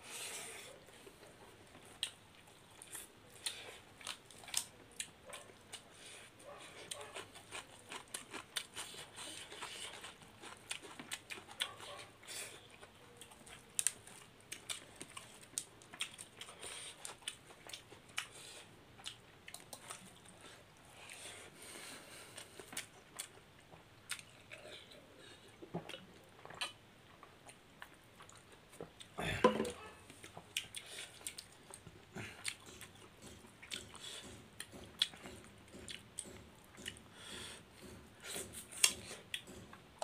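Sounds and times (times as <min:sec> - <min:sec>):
people chewing: 0:00.1 - 0:40.0.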